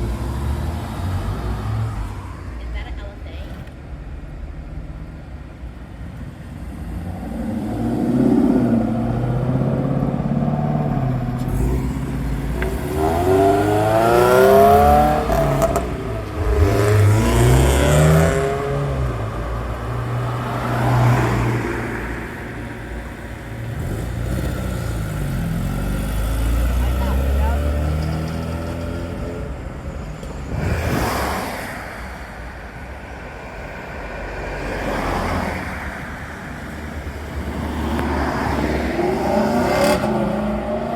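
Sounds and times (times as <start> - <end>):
car engines revving and accelerating: 0.0 - 4.3, 6.2 - 40.9.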